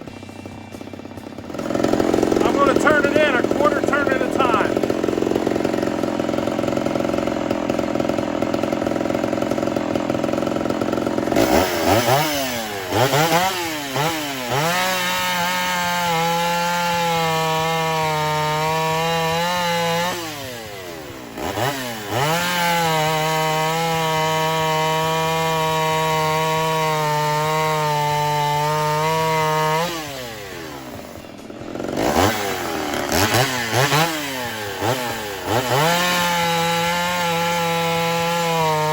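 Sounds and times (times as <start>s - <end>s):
chainsaw cutting wood: 0.0s - 38.9s
chainsaw revving: 0.0s - 38.9s.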